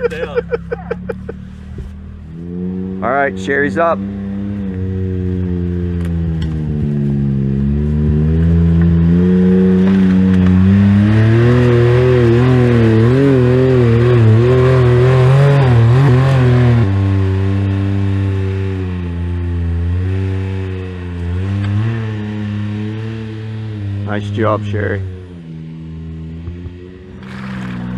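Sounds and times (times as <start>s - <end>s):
utility vehicle engine revving: 0.0s - 27.9s.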